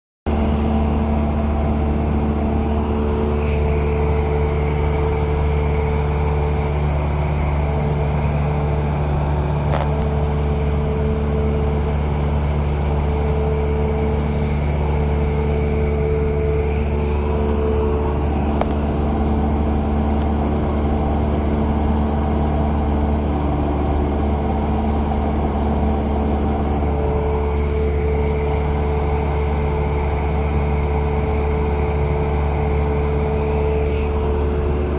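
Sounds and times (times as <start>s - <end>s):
propeller plane engine drone: 0.3s - 34.9s.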